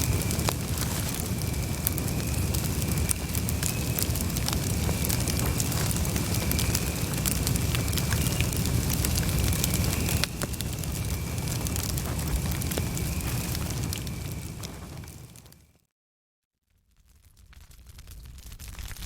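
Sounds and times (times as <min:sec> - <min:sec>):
campfire crackling and popping: 0:00.0 - 0:15.7, 0:16.9 - 0:19.0.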